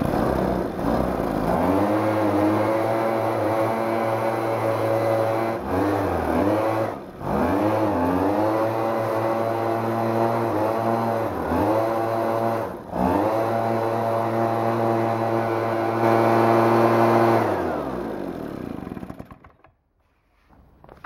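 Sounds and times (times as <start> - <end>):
leaf blower engine running: 0.0 - 19.7.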